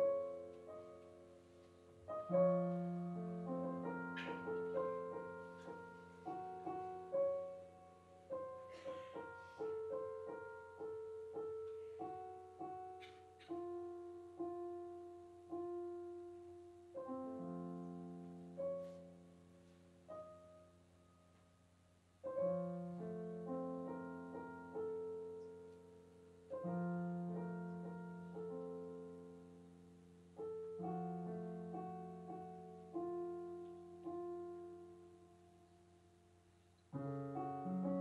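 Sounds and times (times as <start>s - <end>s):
slow solo piano: 0.0s - 38.0s.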